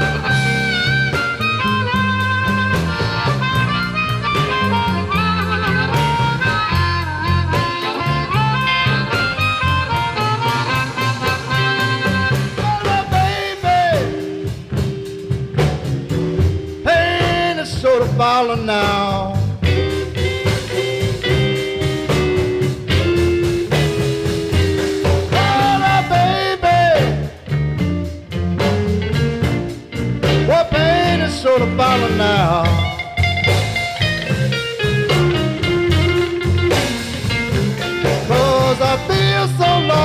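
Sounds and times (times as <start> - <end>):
blues band playing: 0.0 - 40.0.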